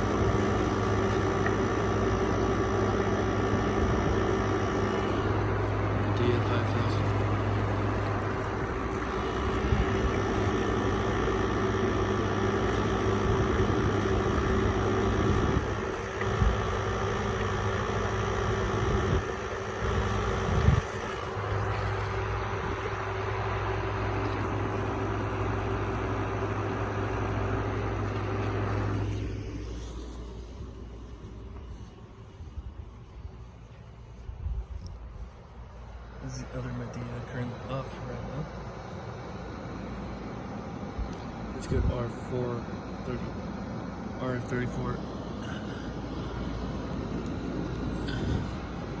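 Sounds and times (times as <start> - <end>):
air conditioner humming: 0.0 - 49.0.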